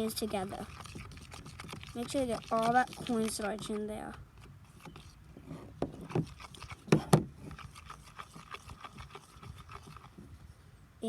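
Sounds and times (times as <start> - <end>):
tool scraping a bowl: 0.0 - 10.4.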